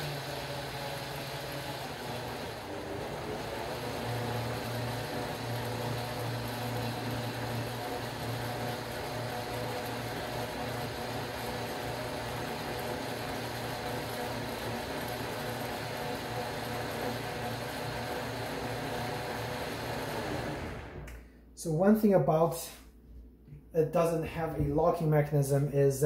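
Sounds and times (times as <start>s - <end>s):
blender motor humming: 0.0s - 21.2s.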